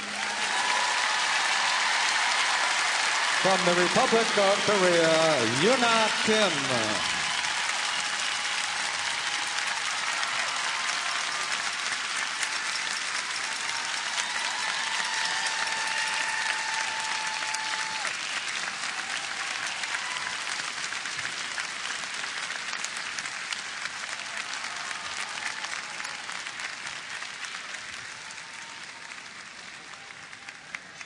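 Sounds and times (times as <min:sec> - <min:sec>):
large crowd applauding: 0:00.0 - 0:31.0.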